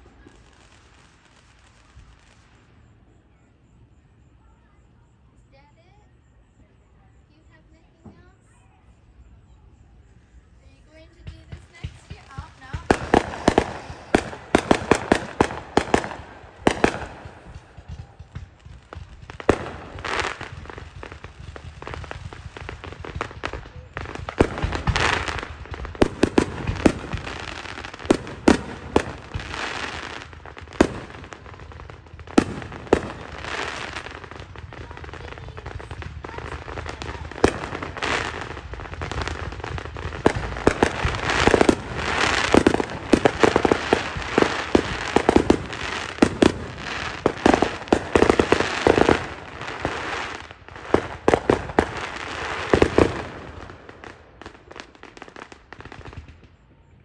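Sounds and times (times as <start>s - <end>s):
fireworks bangs with crackling: 0.0s - 57.0s.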